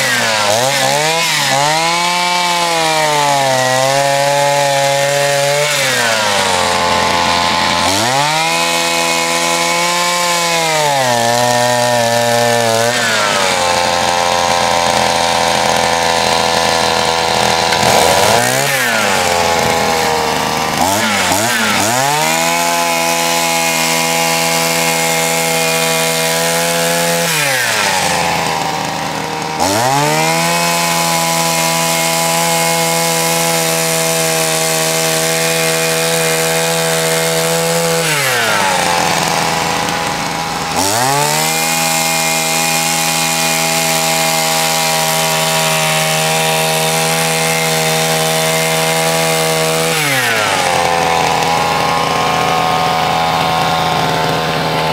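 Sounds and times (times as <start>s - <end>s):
small two-stroke engine revving: 0.0s - 54.9s.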